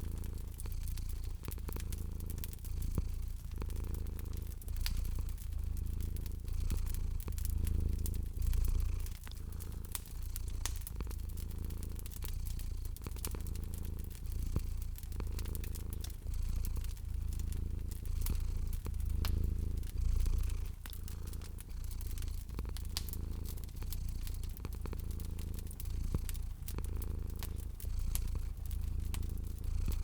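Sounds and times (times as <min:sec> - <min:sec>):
cat purring: 0:00.0 - 0:30.0
wood fire crackling: 0:00.0 - 0:30.0.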